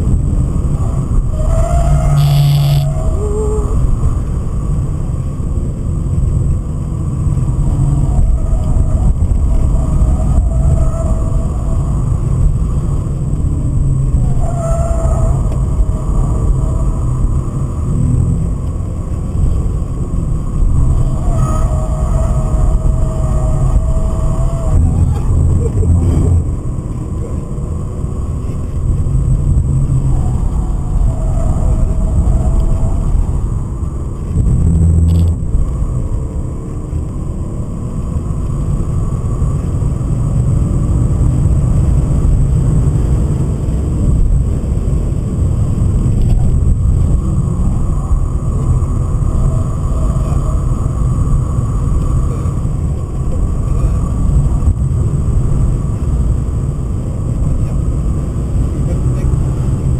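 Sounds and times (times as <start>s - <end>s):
car engine under hard driving: 0.0s - 59.9s
road and tyre rumble: 0.0s - 59.9s.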